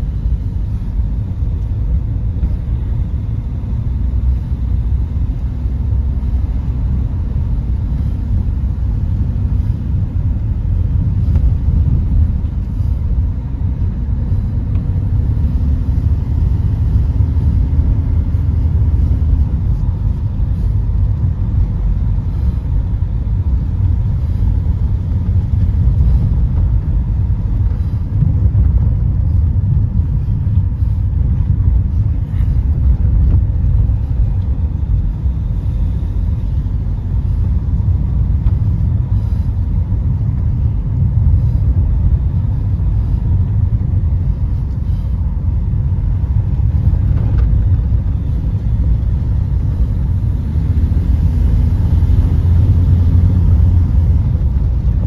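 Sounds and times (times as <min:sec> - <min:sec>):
car engine rumble: 0:00.0 - 0:55.0
tyres on paved road: 0:00.0 - 0:55.0.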